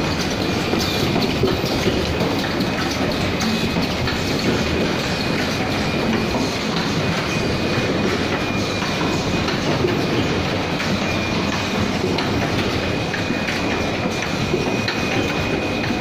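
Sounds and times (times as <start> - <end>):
high machine whine: 0.0 - 16.0
machinery clattering: 0.0 - 16.0.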